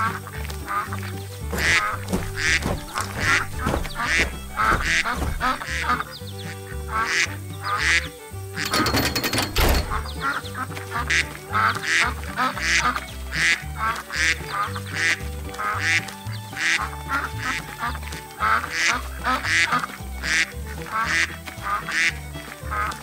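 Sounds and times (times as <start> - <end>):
ducks quacking: 0.0 - 8.8, 9.6 - 23.0
background music with bass line: 0.0 - 23.0.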